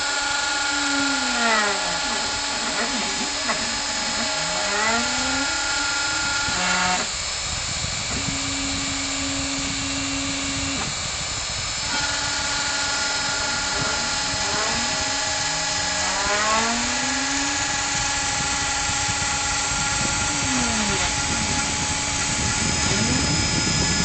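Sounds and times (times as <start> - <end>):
router spindle running: 0.0 - 24.0
stepper motors whining: 0.0 - 24.0.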